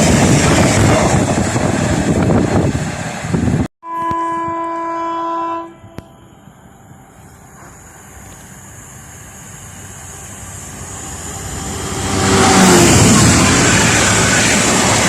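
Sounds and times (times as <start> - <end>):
train passing at speed: 0.0 - 3.7, 4.3 - 15.0.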